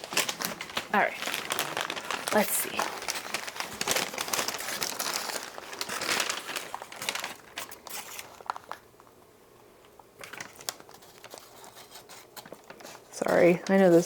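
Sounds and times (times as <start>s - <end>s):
packing material crinkling: 0.0s - 9.3s, 9.9s - 14.0s.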